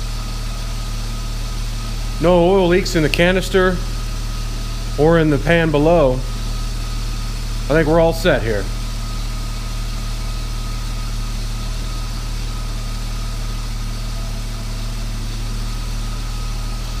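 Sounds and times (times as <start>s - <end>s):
car engine idling: 0.0s - 17.0s
faint high whine: 0.0s - 17.0s.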